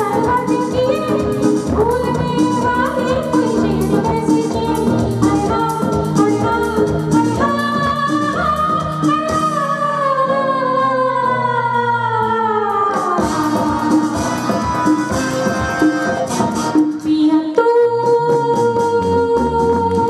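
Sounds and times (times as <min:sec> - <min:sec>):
woman singing: 0:00.0 - 0:14.3, 0:17.0 - 0:20.0
band with keyboards and drums: 0:00.0 - 0:20.0.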